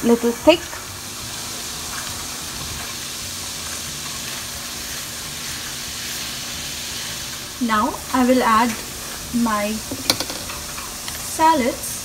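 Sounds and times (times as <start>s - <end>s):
liquid sizzling in a hot pan: 0.0s - 12.0s.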